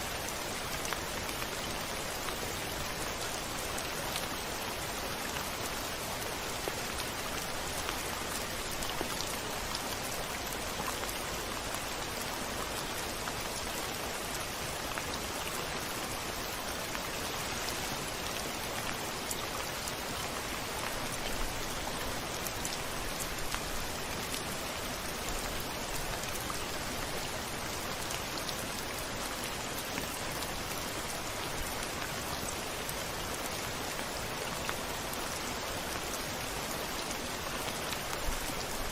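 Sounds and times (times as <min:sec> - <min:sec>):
rain drops on a window: 0:00.0 - 0:38.9.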